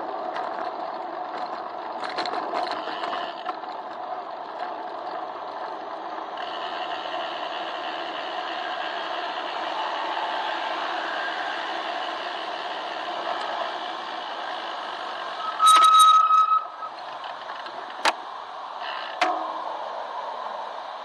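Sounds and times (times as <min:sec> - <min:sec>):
bicycle rolling on pavement: 0:00.0 - 0:21.0.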